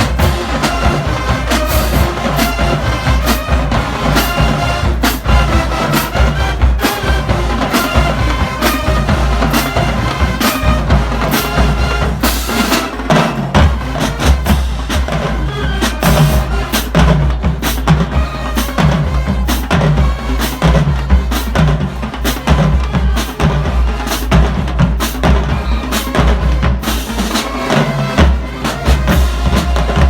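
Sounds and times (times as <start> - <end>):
drumline with bass drum: 0.0 - 30.0
horns holding chords: 0.0 - 30.0.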